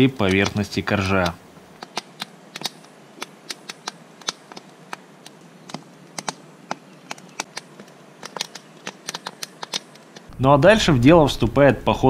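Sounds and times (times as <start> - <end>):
meat slices clicking and tapping: 0.0 - 10.3.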